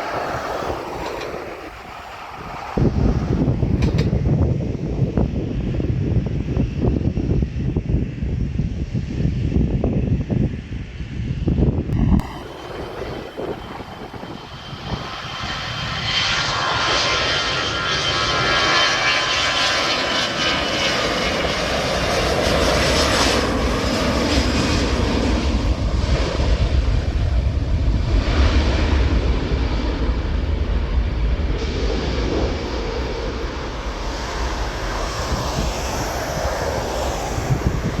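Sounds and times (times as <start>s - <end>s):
jet airliner taking off: 0.0s - 38.0s.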